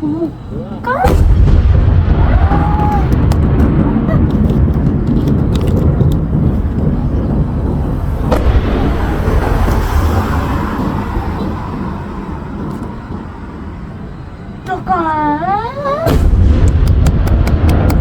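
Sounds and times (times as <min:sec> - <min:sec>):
fireworks booming: 0:00.3 - 0:18.0
sharp fireworks bang: 0:00.9 - 0:14.6, 0:16.0 - 0:18.0
fireworks crackling pops: 0:00.9 - 0:14.8, 0:16.0 - 0:18.0.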